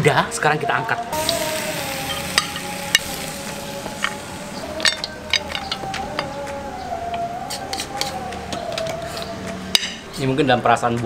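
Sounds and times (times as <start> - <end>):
background music wavering tone: 0.0 - 10.2.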